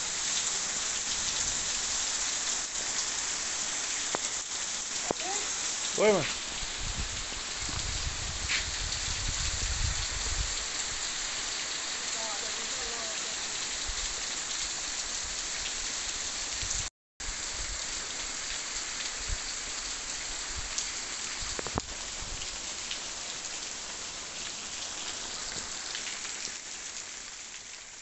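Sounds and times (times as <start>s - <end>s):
heavy rain on vegetation: 0.0s - 28.0s.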